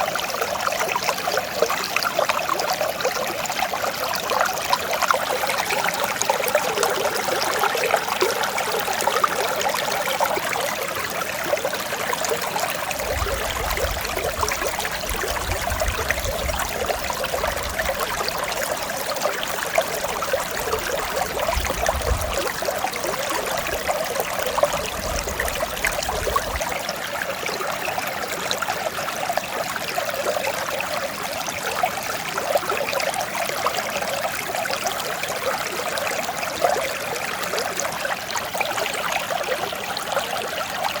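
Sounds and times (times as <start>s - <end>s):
stream flowing: 0.0s - 41.0s.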